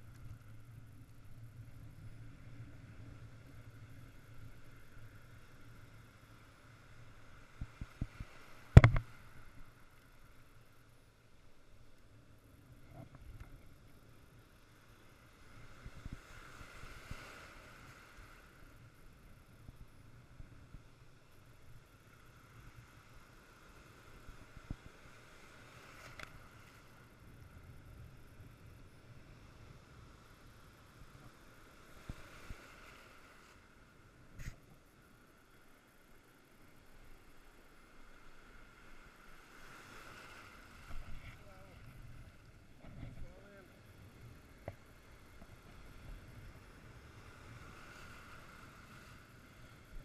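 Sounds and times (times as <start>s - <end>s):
surf rumble: 0.0s - 50.0s
wind: 0.0s - 50.0s.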